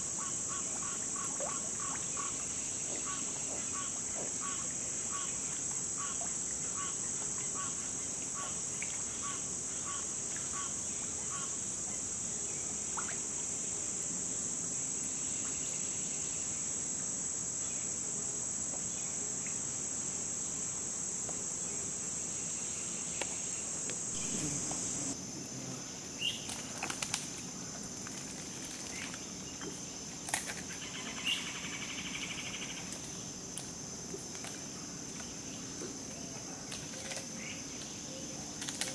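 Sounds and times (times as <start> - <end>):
high-pitched insect chorus: 0.0 - 38.9
short repeating insect call: 0.0 - 38.9.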